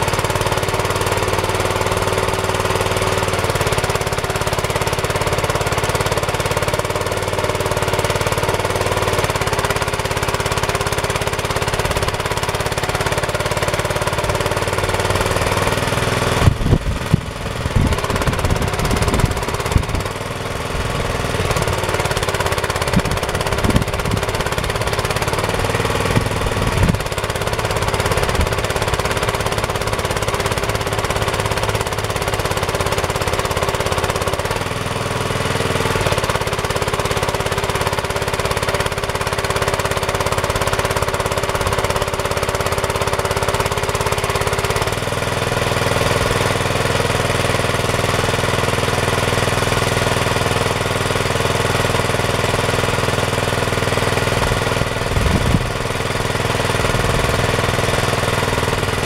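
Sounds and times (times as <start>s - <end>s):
electric motor turning auger: 0.0s - 59.0s
small engine running: 0.0s - 59.0s.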